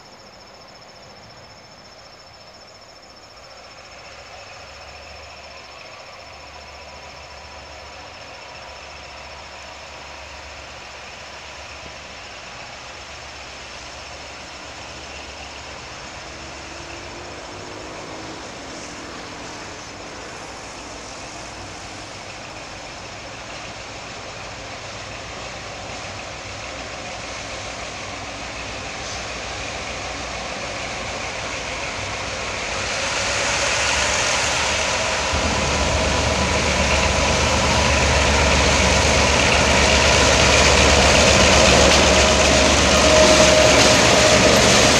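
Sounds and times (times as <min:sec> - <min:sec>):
approaching train noise: 0:00.0 - 0:44.9
diesel locomotive engines: 0:00.0 - 0:44.9.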